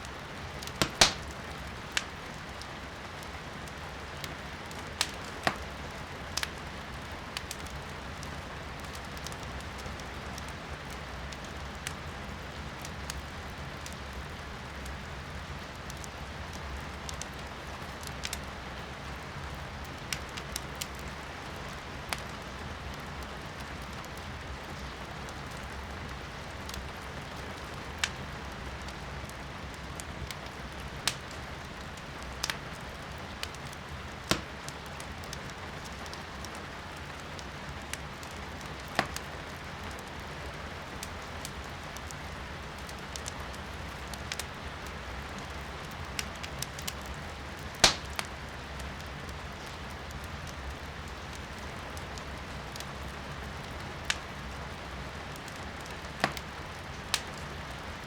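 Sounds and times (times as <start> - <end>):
rain heard from indoors: 0.0 - 58.0
wood fire crackling: 0.0 - 58.0.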